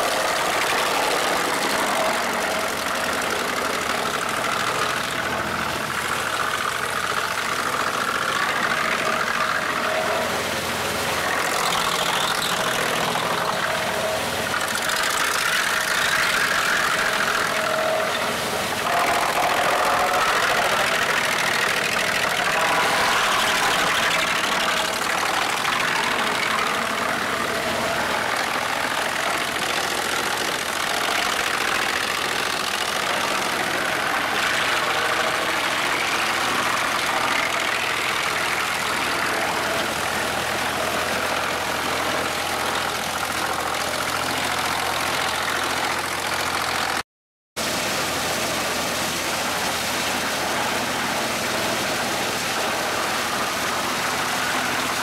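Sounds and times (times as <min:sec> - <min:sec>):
wood chipper chipping boards: 0:00.0 - 0:47.0, 0:47.6 - 0:55.0.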